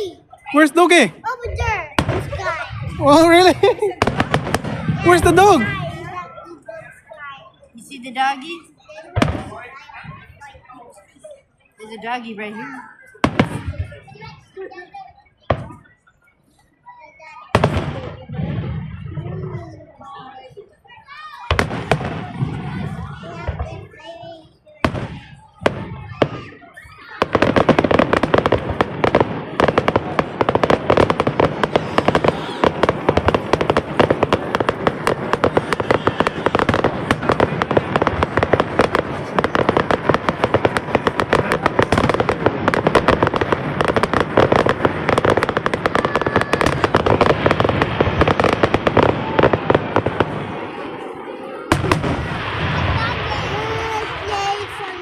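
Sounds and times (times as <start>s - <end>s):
fireworks rapid bangs: 0.6s - 6.2s, 9.0s - 10.8s, 12.7s - 14.3s, 15.4s - 16.0s, 17.5s - 20.2s, 21.4s - 55.0s.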